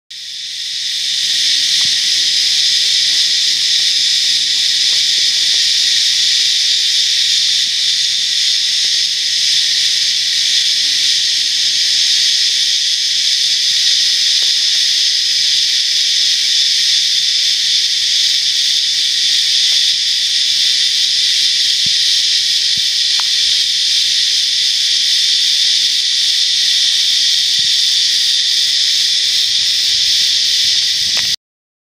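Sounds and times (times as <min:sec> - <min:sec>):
cicadas calling in chorus: 0:00.1 - 0:31.4.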